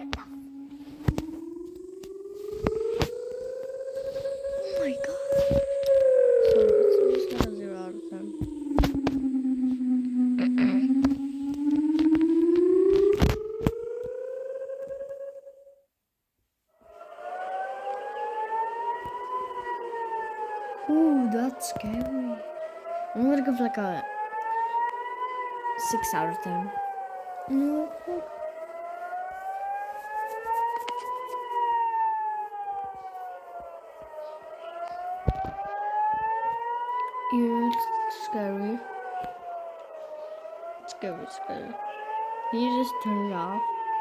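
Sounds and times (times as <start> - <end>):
siren wail rising in pitch: 0.0 - 15.8, 16.8 - 44.0.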